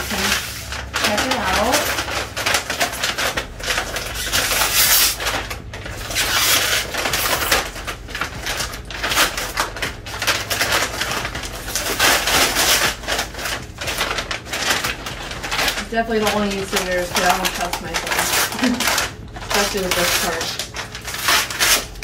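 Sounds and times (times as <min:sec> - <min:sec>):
paper crinkling and tearing: 0:00.0 - 0:22.0.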